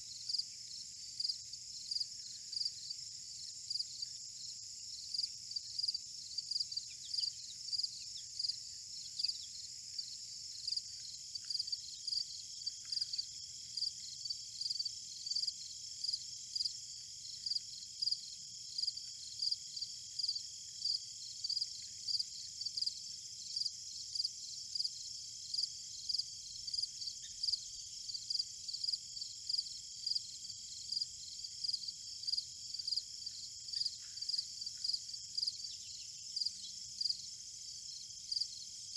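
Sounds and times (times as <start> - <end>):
insects chirping: 0.1 - 38.9.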